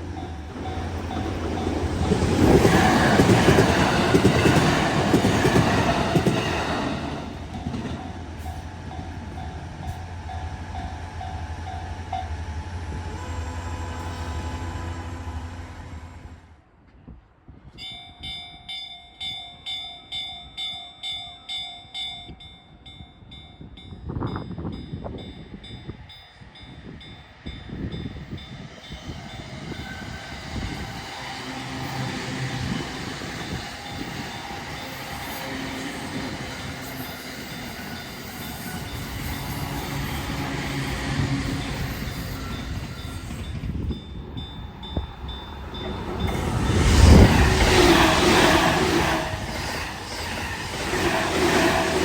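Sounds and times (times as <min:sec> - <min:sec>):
level-crossing warning bell clanging: 0:00.0 - 0:12.6, 0:17.7 - 0:52.0
train rumbling past: 0:00.0 - 0:18.4, 0:23.7 - 0:52.0.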